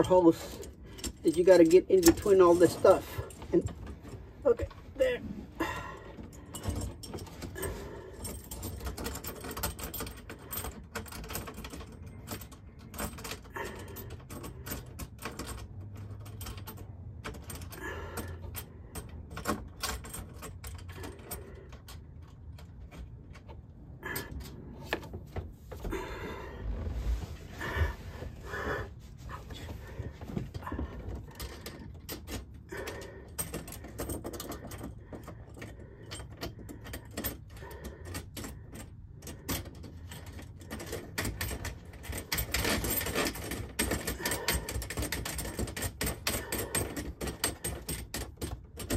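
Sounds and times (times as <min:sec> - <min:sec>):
clicks and rattles of hardware: 0:00.0 - 0:48.9.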